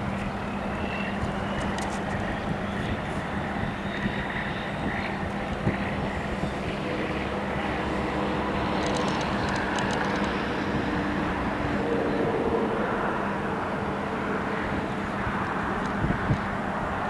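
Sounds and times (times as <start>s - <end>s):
locomotive diesel engine droning: 0.0s - 17.0s.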